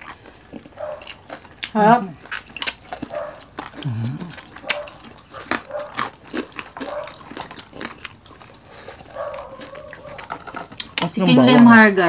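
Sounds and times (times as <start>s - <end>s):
wet smacking: 0.0s - 11.1s
chewing with crunches: 0.0s - 11.6s.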